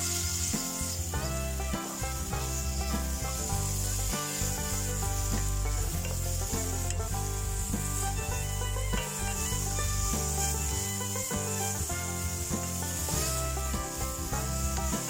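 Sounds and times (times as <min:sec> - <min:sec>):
food being stirred: 0:00.0 - 0:15.0
food sizzling in a pan: 0:00.0 - 0:15.0.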